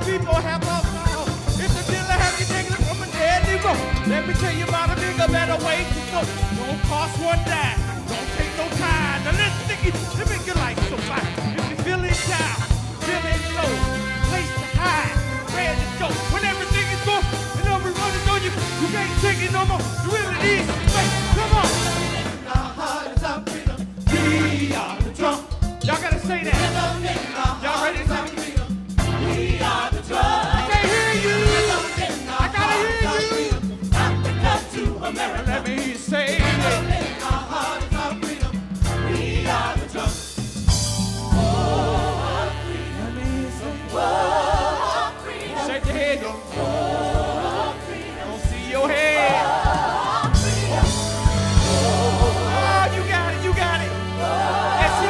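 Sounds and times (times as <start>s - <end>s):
bass and drums: 0.0s - 55.0s
live band with sharp beat: 0.0s - 55.0s
gospel choir singing: 1.2s - 55.0s.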